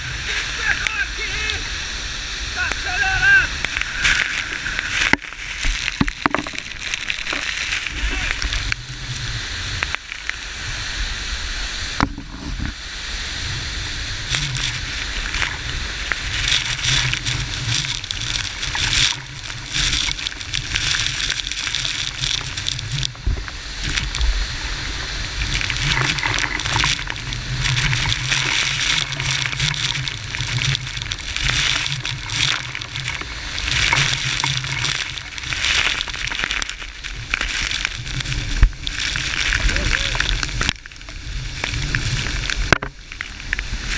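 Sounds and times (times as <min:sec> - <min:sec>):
waterfall rushing and splashing: 0:00.0 - 0:43.9.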